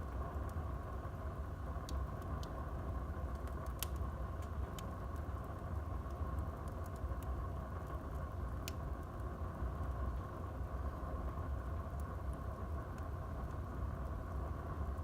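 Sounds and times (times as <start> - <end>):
burning wood crackling and popping: 0.0 - 15.0
flames rumbling: 0.0 - 15.0.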